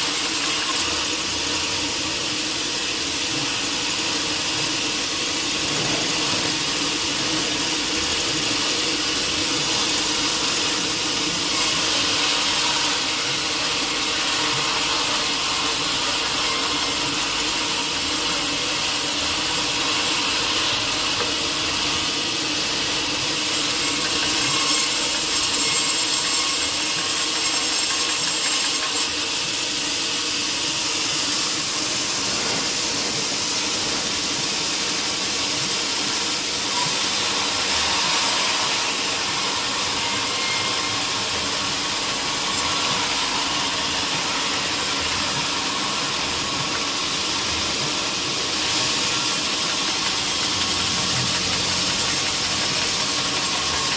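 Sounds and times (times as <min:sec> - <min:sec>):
saw cutting wood: 0:00.0 - 0:53.9.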